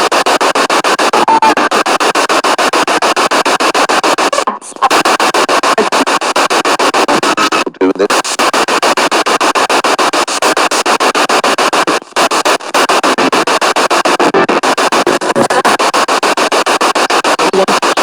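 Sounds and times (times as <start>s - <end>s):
chopped radio static hissing: 0.0s - 18.0s
snatches of broadcast sound: 0.0s - 18.0s.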